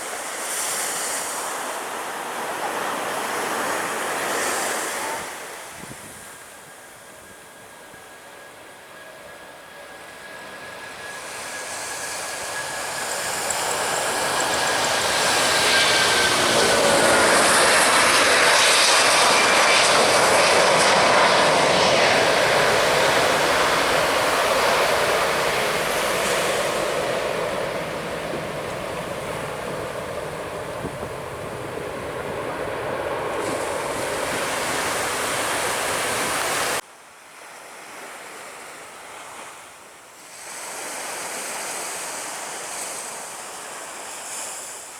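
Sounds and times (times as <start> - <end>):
jet airliner passing overhead: 0.0 - 36.8.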